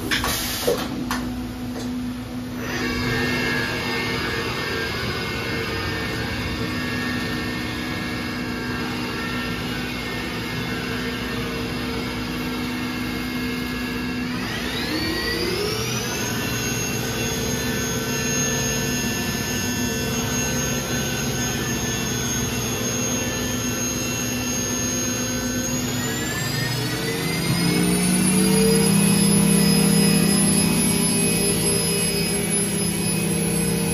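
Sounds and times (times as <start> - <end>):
machine spindle whine: 0.0 - 33.9.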